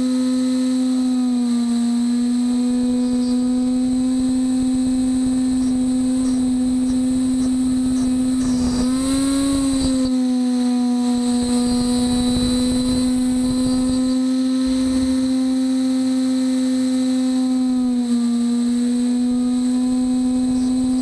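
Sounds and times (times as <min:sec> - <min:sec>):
rough metal cutting noise: 0:00.0 - 0:21.0
router spindle whine: 0:00.0 - 0:21.0.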